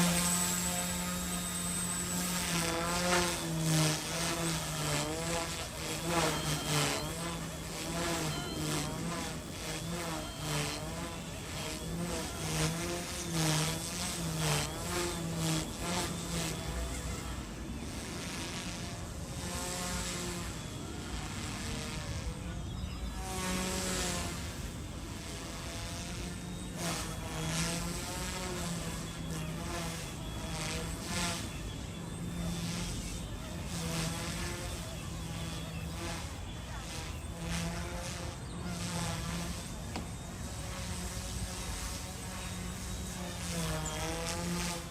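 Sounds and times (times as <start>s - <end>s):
model helicopter rotors whining: 0.0s - 44.9s.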